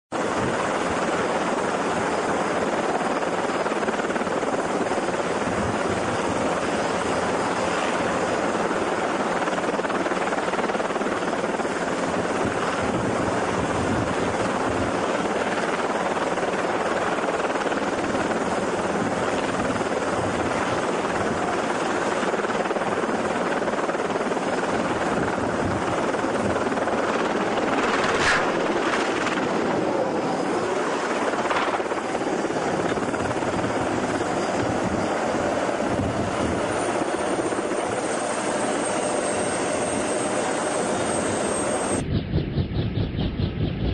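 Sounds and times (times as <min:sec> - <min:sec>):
helicopter engine and rotor: 0:00.1 - 0:43.9.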